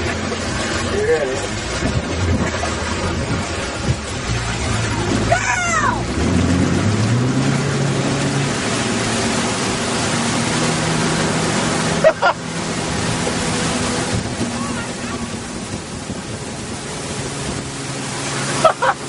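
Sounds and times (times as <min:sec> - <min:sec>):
spray and wind rushing: 0:00.0 - 0:05.3, 0:06.0 - 0:19.0
motorboat engine running: 0:00.0 - 0:19.0.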